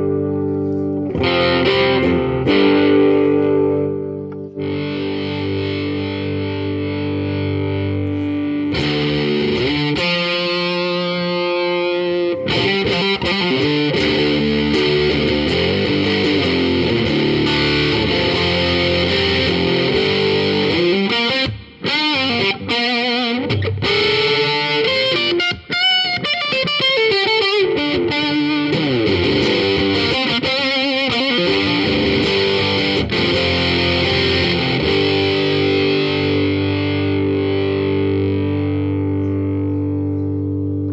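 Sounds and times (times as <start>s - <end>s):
overdriven electric guitar: 0.0s - 40.9s.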